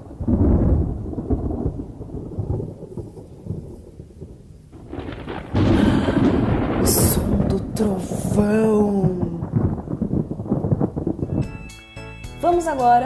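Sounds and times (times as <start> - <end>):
thunder clap: 0.0 - 11.8
thunder rumbling: 0.0 - 11.8.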